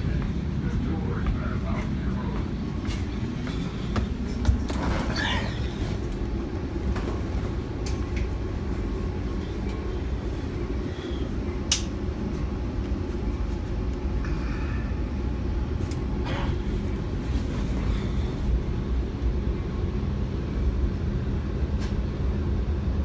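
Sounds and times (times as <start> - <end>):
train coach rumbling in motion: 0.0 - 23.0.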